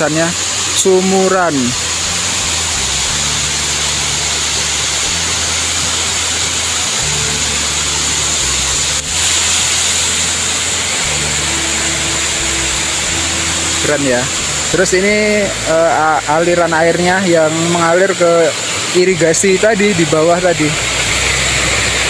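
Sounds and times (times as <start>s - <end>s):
low held background music notes: 0.0s - 22.0s
waterfall rushing: 0.0s - 22.0s.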